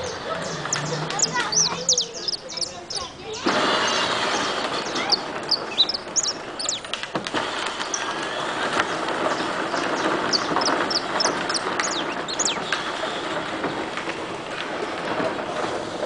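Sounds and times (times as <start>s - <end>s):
small birds chirping: 0.0s - 13.8s
steady rumbling background: 0.0s - 14.5s.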